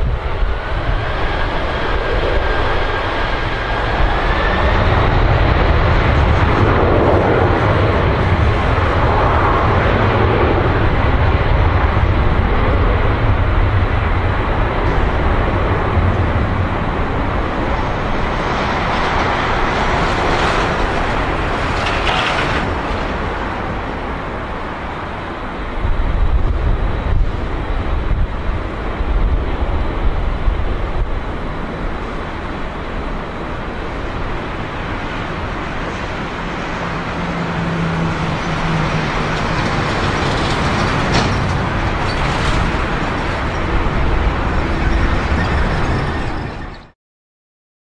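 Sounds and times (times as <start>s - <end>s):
large vehicle rumbling roar: 0.0s - 46.9s.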